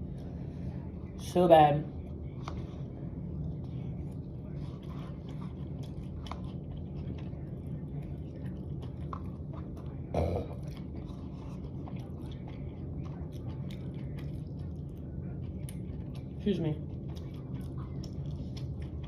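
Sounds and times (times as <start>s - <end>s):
chewing and crunching food: 0.0s - 19.0s
steady low hum: 0.0s - 19.0s.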